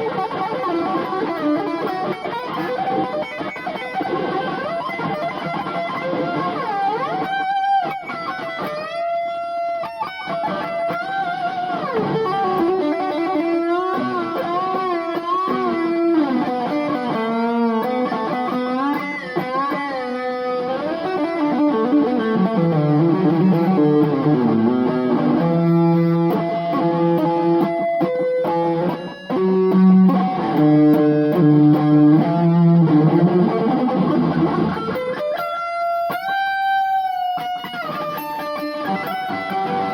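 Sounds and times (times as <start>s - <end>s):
electric guitar rock solo: 0.0s - 39.9s.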